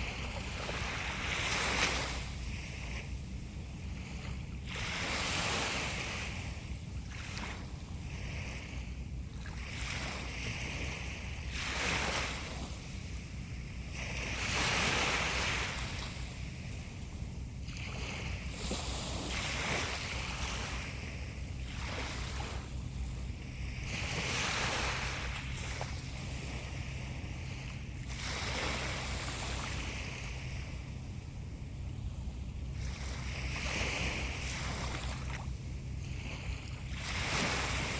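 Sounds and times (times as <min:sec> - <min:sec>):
sea waves breaking on shore: 0:00.0 - 0:37.9.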